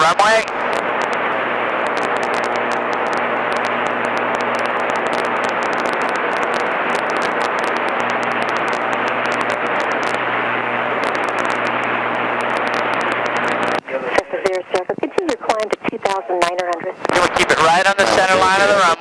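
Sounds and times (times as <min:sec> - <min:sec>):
crackling clicks: 0:00.0 - 0:18.9.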